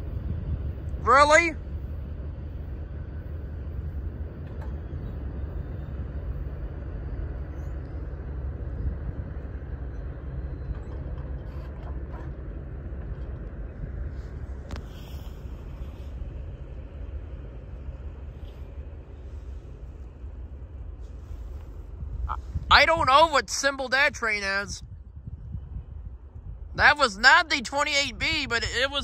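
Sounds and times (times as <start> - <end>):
freight train rumbling: 0.0 - 29.0.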